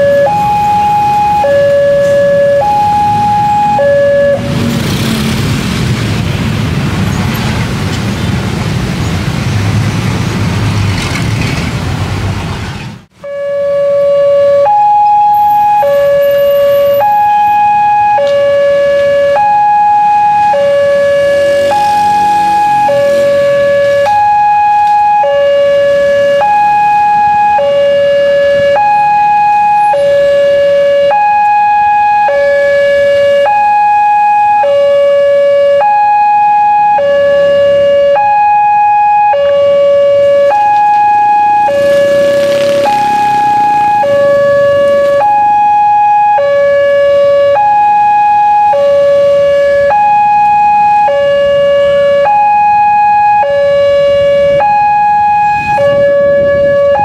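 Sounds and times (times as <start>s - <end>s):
two-tone level crossing alarm: 0.0s - 4.5s, 13.2s - 57.0s.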